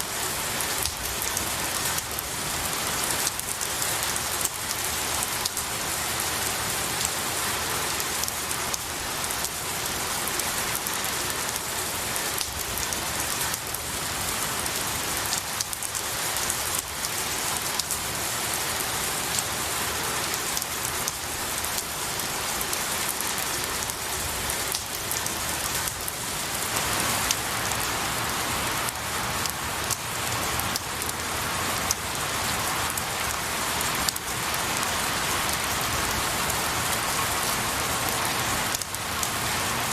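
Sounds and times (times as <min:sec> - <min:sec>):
rain pattering on branches: 0:00.0 - 0:39.9.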